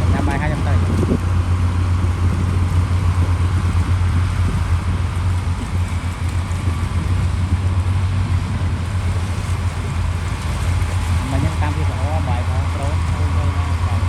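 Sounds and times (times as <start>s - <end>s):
heavy diesel engine droning: 0.0s - 14.0s.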